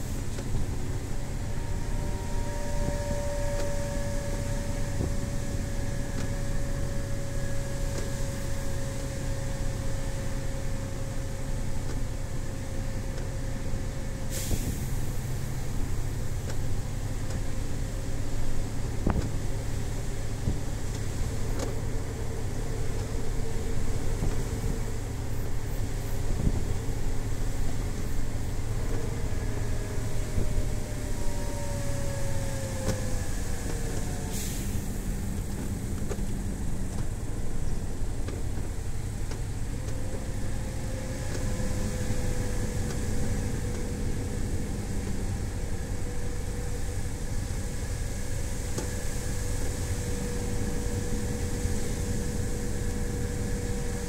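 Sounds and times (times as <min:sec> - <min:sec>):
diesel truck engine drone: 0:00.0 - 0:54.0.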